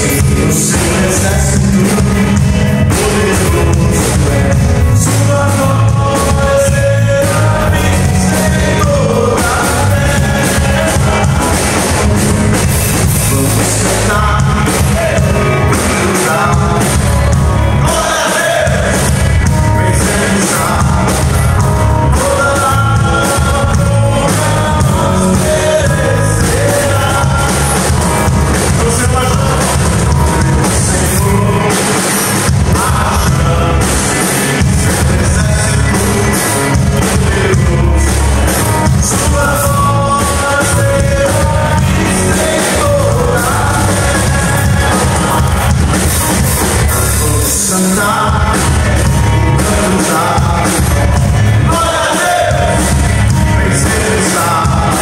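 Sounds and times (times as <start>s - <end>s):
live gospel rock band: 0.0s - 55.0s
man singing: 0.0s - 55.0s.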